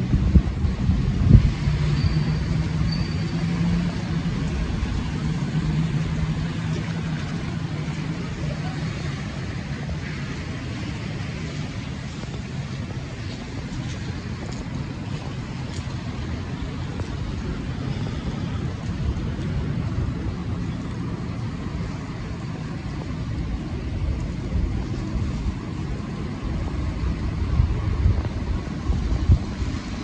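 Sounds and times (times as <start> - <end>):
hiss of wet city street: 0.0 - 30.0
wind buffeting microphone: 0.0 - 30.0.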